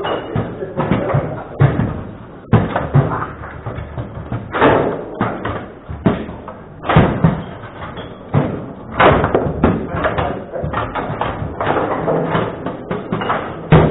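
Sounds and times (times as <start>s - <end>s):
table football ball knocking: 0.0s - 13.9s
table football rods banging: 0.0s - 13.9s.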